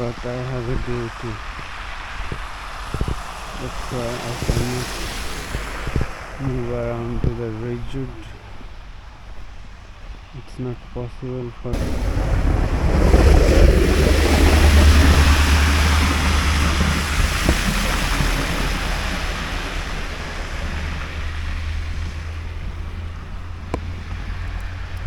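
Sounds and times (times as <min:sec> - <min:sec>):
wind gusting across microphone: 0:00.0 - 0:25.0.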